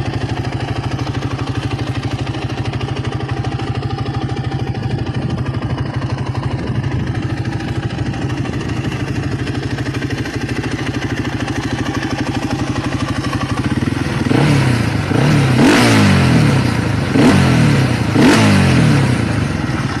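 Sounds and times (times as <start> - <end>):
engine idling and revving: 0.0 - 20.0.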